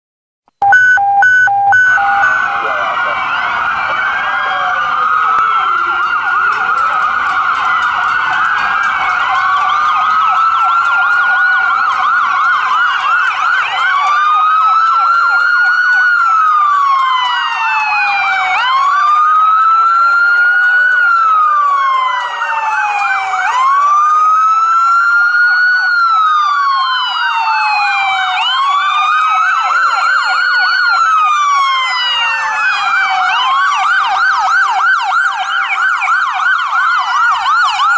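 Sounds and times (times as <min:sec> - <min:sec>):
wailing siren: 0:00.6 - 0:37.9
yelping sirens: 0:00.6 - 0:37.9.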